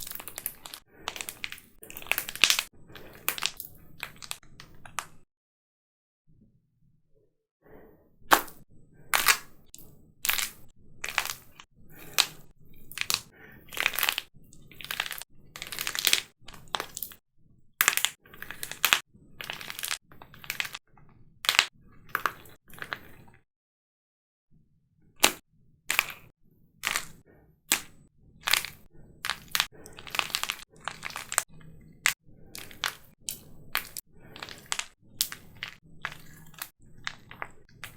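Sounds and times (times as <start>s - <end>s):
plaster clay cracking: 0.0s - 5.2s, 8.3s - 8.6s, 9.2s - 17.2s, 17.8s - 20.8s, 21.5s - 23.3s, 25.2s - 37.9s.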